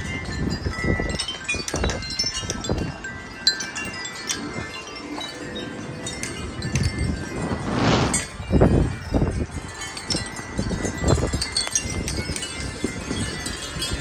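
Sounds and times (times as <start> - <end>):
wind chimes ringing: 0.0 - 14.0
wind gusts on microphone: 0.0 - 14.0.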